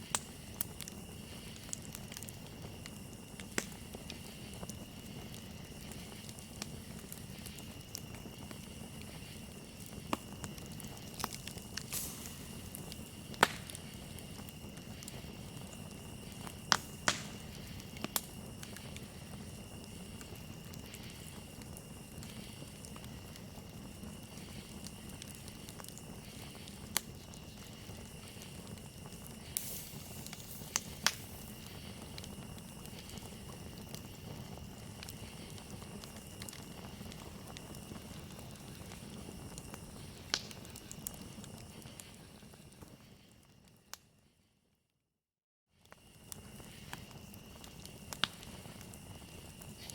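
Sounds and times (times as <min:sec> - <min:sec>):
crickets trilling: 0:00.0 - 0:44.2, 0:45.8 - 0:49.9
campfire crackling and popping: 0:00.0 - 0:44.3, 0:45.8 - 0:49.9.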